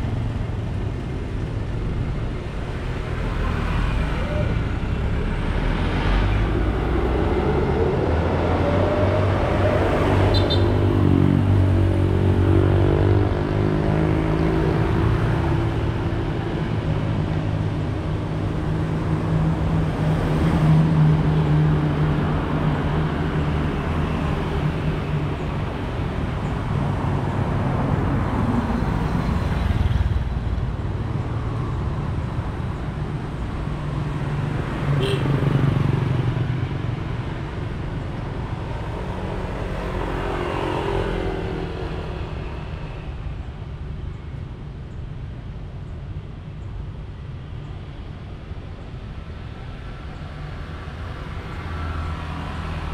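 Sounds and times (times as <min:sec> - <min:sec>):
cars and motorcycles passing: 0:00.0 - 0:52.9
traffic hum: 0:00.0 - 0:52.9.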